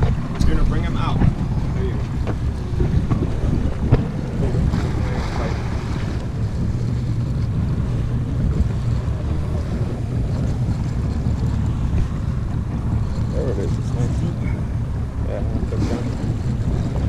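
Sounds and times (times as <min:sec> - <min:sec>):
low rumble of boat at sea: 0:00.0 - 0:17.0
wind buffeting microphone: 0:00.0 - 0:17.0.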